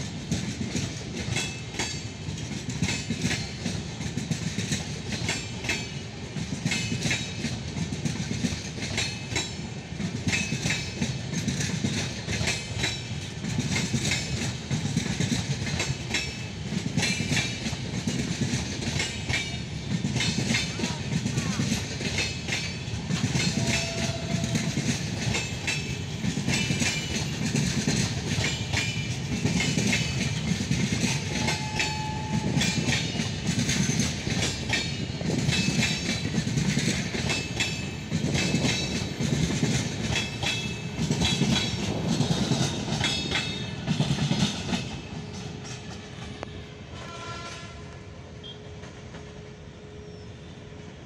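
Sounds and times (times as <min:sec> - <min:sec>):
train wheels clattering over rail joints: 0:00.0 - 0:47.8.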